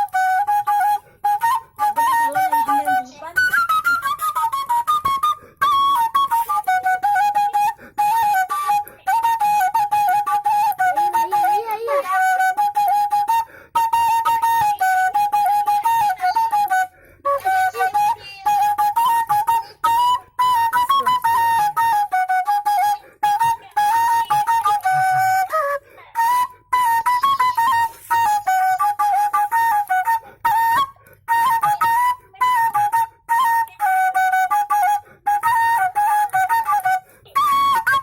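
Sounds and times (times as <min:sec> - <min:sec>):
bamboo flute melody: 0:00.0 - 0:38.0.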